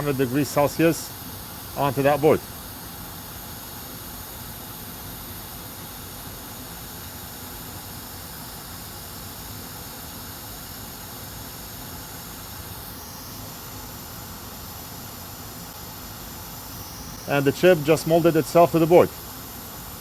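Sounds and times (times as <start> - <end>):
hot air blower hissing: 0.0 - 20.0.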